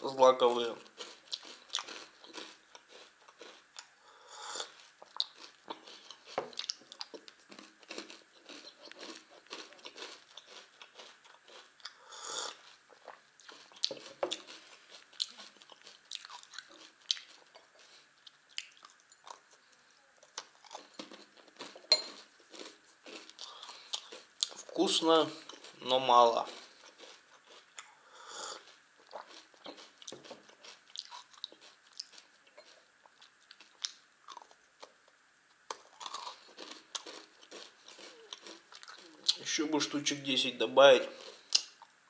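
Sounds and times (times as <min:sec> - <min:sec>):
crunchy chewing: 0:00.6 - 0:35.0, 0:35.6 - 0:39.6, 0:41.0 - 0:42.0.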